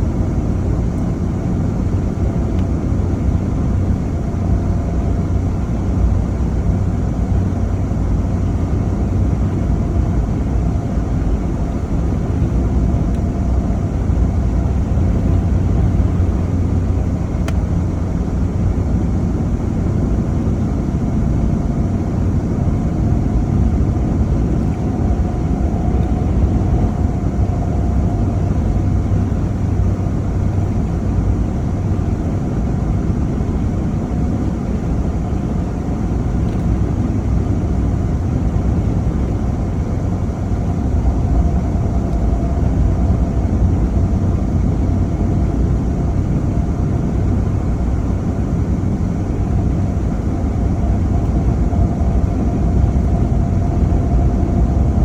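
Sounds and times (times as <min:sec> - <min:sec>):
vehicle driving rumble: 0:00.0 - 0:55.0.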